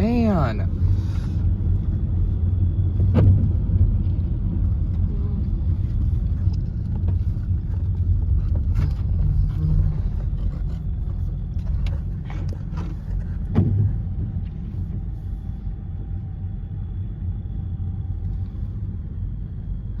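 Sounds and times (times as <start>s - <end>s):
car road rumble on wet road: 0.0s - 16.3s
faint steady whine: 0.0s - 20.0s.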